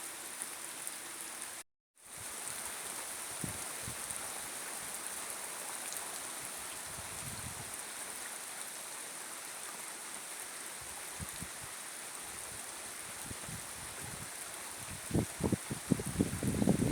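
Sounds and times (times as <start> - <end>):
steady rain in woodland: 0.0 - 16.9.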